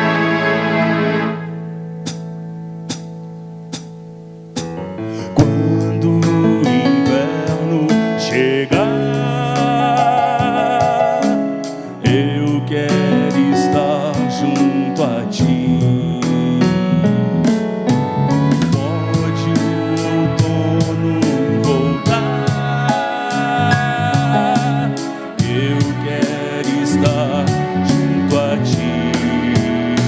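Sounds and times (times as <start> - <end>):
live band music: 4.6 - 30.0.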